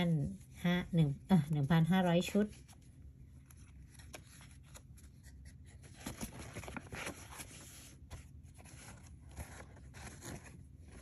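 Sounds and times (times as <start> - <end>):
paper and card rustling: 1.5 - 11.0.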